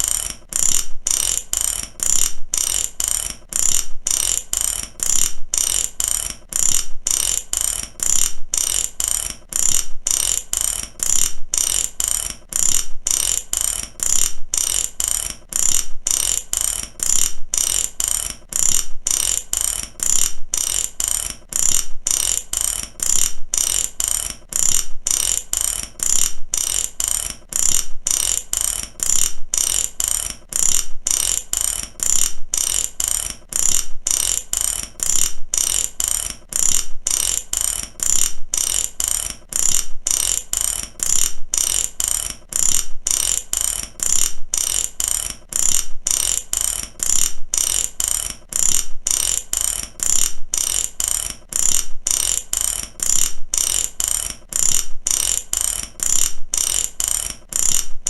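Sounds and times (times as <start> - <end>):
ratchet wrench clicking: 0.0 - 58.0.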